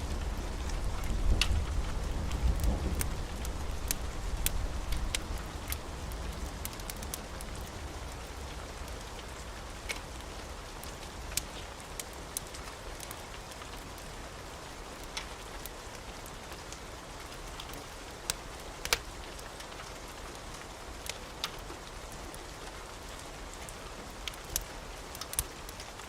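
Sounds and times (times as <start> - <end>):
wood fire crackling and popping: 0.0 - 14.1, 14.7 - 21.6, 22.3 - 26.0.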